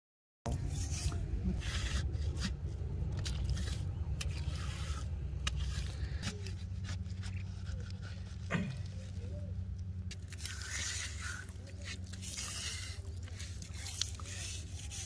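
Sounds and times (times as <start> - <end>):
steady low rumble: 0.5 - 15.0
scraping through wet mud: 0.6 - 15.0.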